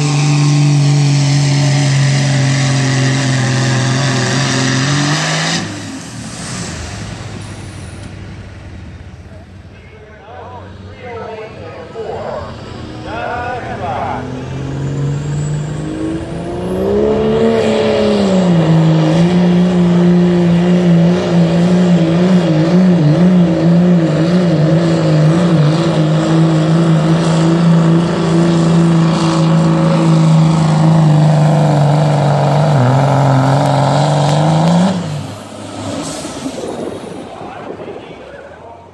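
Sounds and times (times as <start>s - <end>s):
diesel truck engine at high revs: 0.0s - 9.7s, 10.4s - 38.9s.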